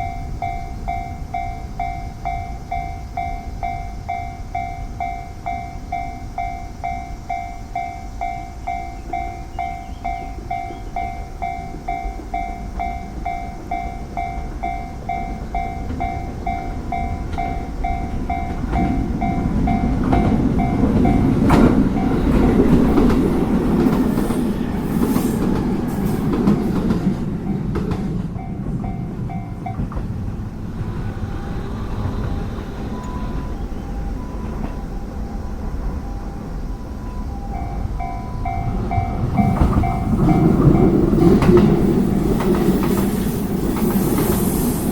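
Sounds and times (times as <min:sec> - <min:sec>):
level crossing warning bell dinging: 0:00.0 - 0:24.6, 0:27.4 - 0:30.1, 0:32.6 - 0:42.4
train wheels rumbling and clattering: 0:00.0 - 0:44.9.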